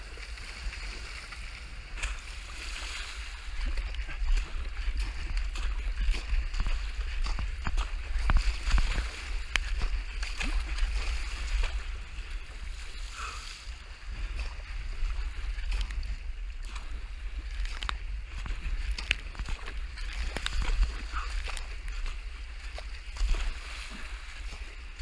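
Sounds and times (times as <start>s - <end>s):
paddle splashes: 0.0s - 25.0s
water rushing against hull: 0.0s - 25.0s
wind rumble on microphone: 0.0s - 25.0s.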